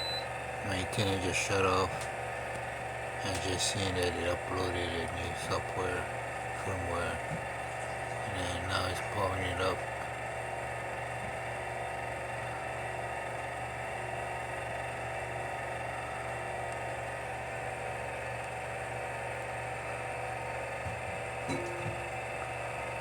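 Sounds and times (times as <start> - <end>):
machine whir and hum: 0.0 - 23.0.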